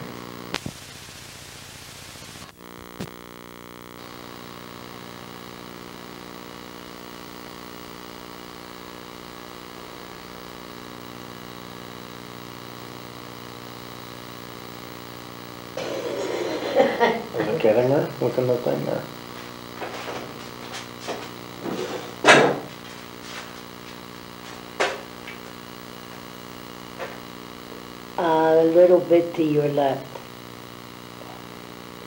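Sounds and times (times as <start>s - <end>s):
electrical mains hum: 0.0s - 32.0s
videotape static hiss: 0.0s - 32.0s.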